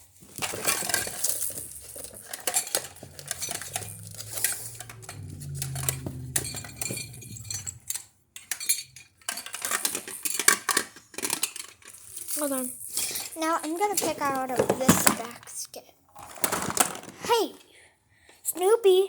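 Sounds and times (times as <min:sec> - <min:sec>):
hard toys clattering: 0:00.0 - 0:17.5.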